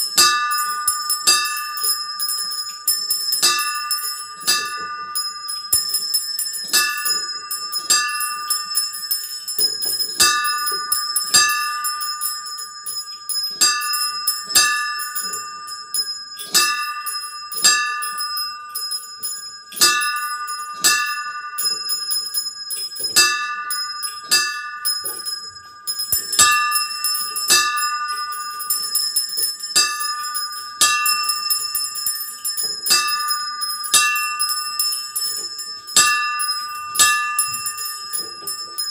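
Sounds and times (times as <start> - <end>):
small bells ringing: 0.0 - 38.9.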